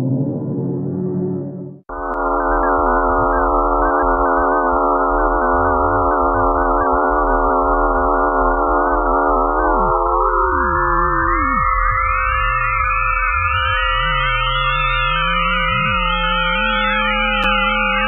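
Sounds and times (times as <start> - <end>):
deep electronic drone: 0.0 - 18.0
wavering electronic tones: 1.9 - 18.0.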